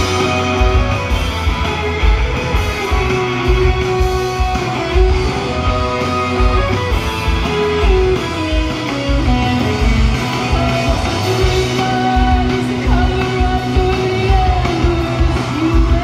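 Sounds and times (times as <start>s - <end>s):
drums: 0.0s - 16.0s
electric guitars: 0.0s - 16.0s.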